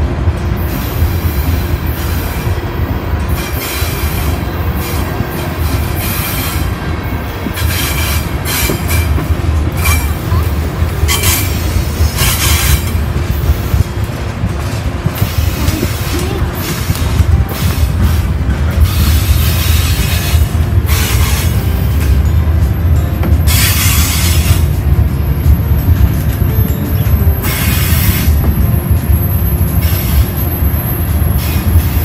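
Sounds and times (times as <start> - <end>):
freight cars rumbling: 0.0 - 32.0
wheels rattling and squealing: 0.0 - 32.0.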